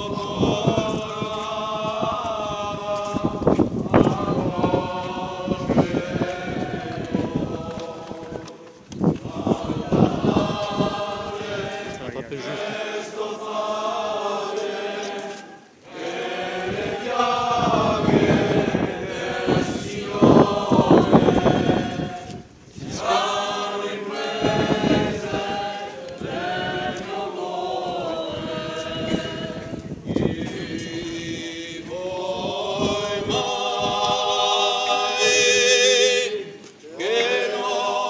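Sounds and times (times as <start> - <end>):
group singing religious chant: 0.0 - 38.0.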